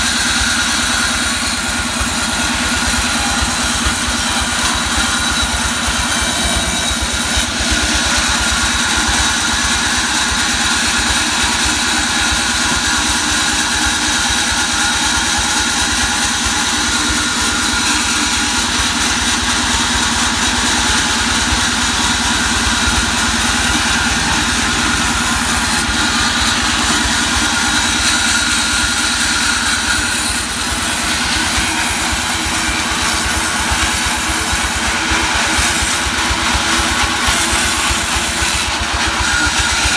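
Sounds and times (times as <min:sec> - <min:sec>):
low pulsing saw drive: 0:00.0 - 0:35.0
band saw cutting log: 0:00.0 - 0:39.9.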